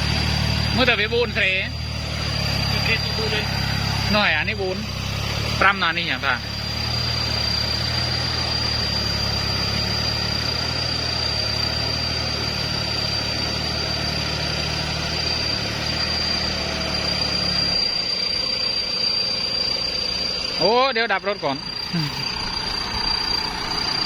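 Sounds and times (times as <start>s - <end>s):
high whine: 0.0s - 24.0s
tractor diesel engine idling: 0.0s - 24.0s.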